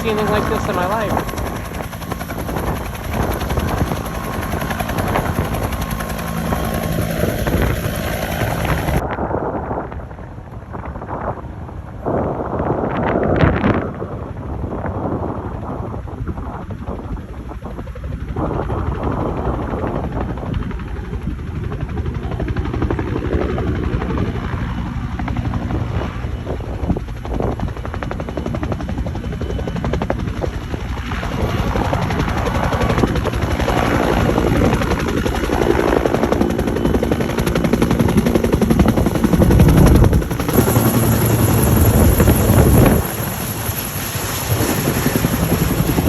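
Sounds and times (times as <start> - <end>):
helicopter rotor beat: 0.0 - 46.0.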